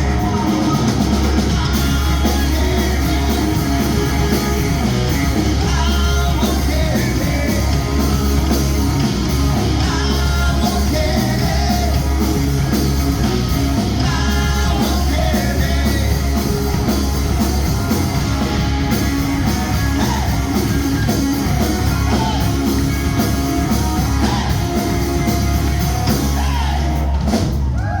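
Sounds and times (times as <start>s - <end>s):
heavy bass: 0.0s - 28.0s
rock band with singer: 0.0s - 28.0s.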